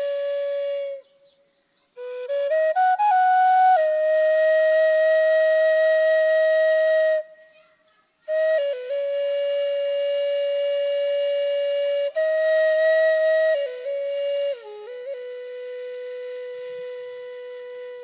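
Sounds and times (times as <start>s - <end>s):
solo flute playing: 0.0s - 7.6s, 8.2s - 18.0s.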